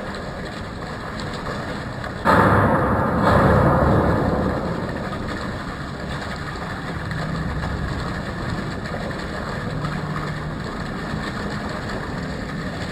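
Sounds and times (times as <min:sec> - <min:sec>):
rumbling outdoor background noise: 0:00.0 - 0:12.9.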